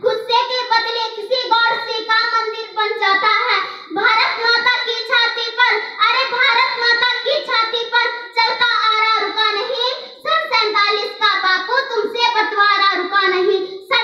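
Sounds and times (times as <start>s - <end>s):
girl reciting in sing-song voice: 0.0s - 14.0s.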